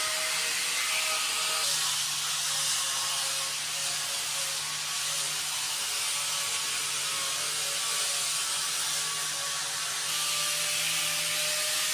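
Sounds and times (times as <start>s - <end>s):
power tool whirring: 0.0s - 11.9s.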